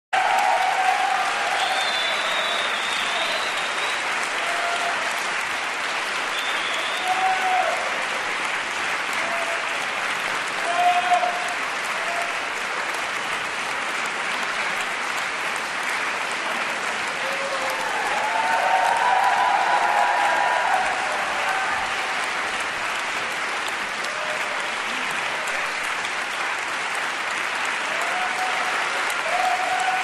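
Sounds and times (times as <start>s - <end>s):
audience applauding: 0.1s - 30.0s.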